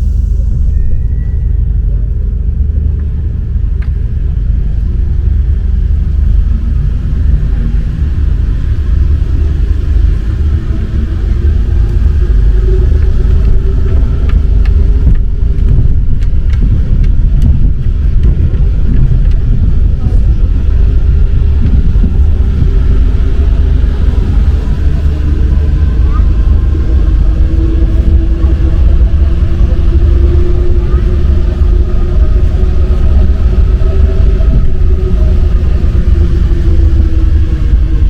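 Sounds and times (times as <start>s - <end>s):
faint whine: 0.0s - 38.0s
metro train rumble: 0.0s - 38.0s.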